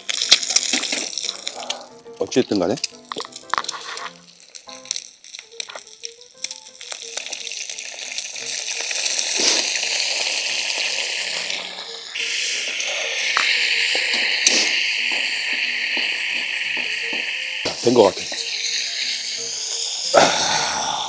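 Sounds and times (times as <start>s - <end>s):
food sizzling in oiled pan: 0.0s - 21.0s.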